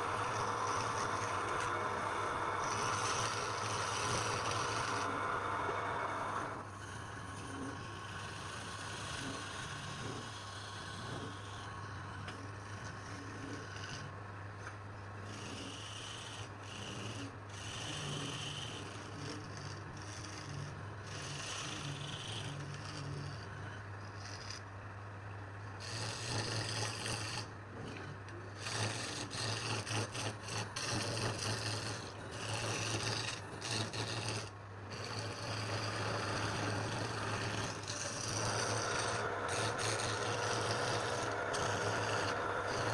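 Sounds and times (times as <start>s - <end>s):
tool rasping wood: 0.0s - 24.8s, 25.7s - 42.9s
steady low hum: 0.0s - 42.9s.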